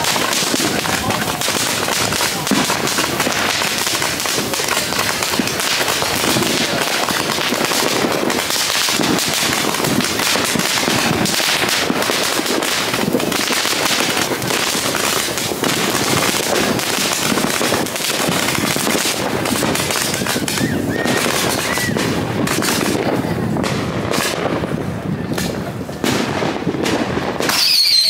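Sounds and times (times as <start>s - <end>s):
firework fountain crackling hiss: 0.0s - 28.0s.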